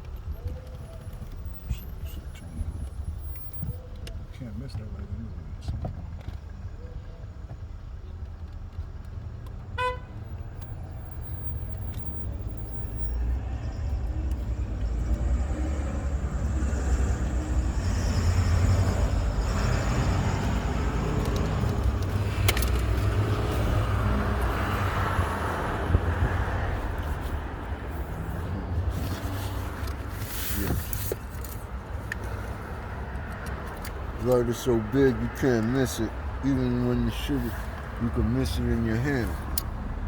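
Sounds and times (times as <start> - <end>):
vehicle engine and road noise: 0.0 - 40.0.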